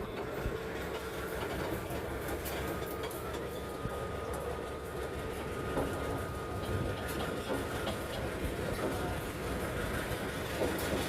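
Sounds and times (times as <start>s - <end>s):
thin steady whine: 0.0s - 10.4s
diesel locomotive engine running: 0.0s - 11.0s.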